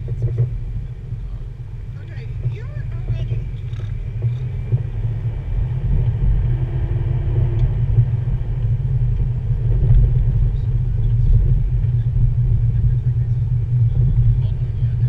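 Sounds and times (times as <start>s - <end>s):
car interior driving rumble: 0.0s - 15.0s.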